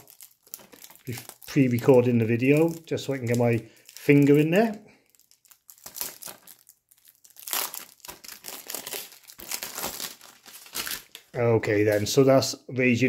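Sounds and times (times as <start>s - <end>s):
shrink-wrap crinkling: 0.0s - 12.3s.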